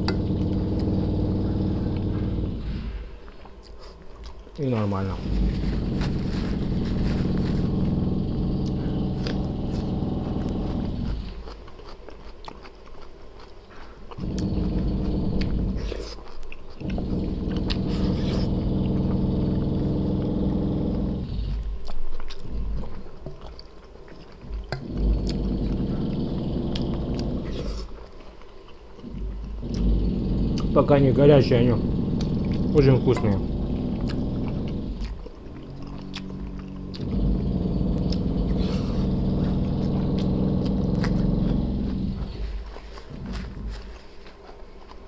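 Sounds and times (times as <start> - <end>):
low humming drone: 0.0 - 3.4, 5.0 - 11.6, 14.1 - 23.4, 24.4 - 28.2, 29.0 - 44.1
chewing: 0.0 - 45.0.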